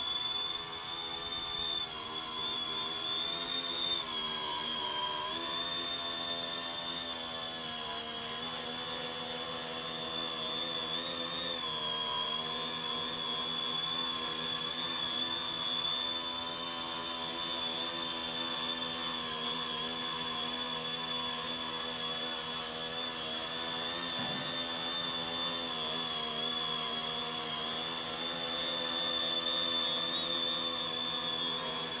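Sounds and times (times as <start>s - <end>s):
drone motors and propellers whining: 0.0s - 32.0s
thin steady high tone: 0.0s - 32.0s.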